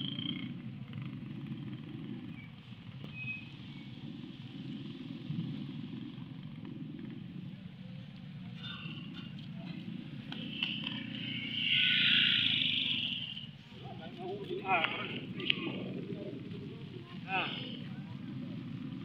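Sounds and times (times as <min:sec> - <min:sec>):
vehicle engine low rumble: 0:00.0 - 0:19.0.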